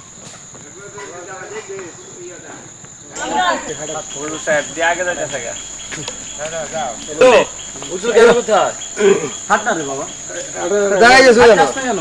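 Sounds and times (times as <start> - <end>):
people talking: 0.6 - 12.0
high-pitched insect drone: 0.8 - 12.0.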